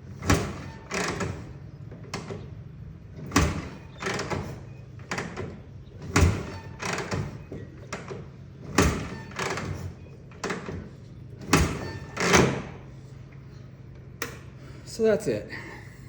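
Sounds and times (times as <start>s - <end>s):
motorcycle being kick-started: 0.0s - 14.7s.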